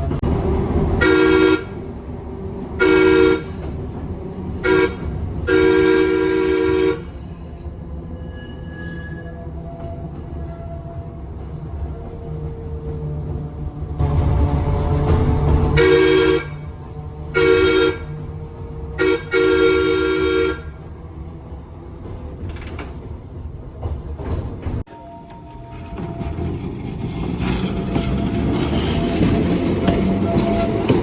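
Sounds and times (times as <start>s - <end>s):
trolley car rumbling: 0.0s - 31.0s.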